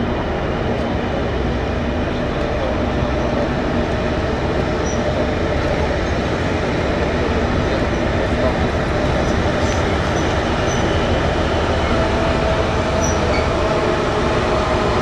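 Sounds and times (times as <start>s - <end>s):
dump truck diesel engine drone: 0.0s - 15.0s.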